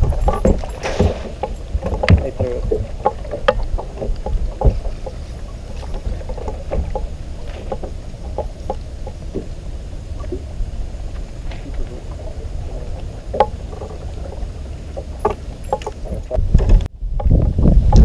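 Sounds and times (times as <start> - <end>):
light knocks and clicks on boat: 0.0 - 17.3
water lapping against boat hull: 0.0 - 18.0.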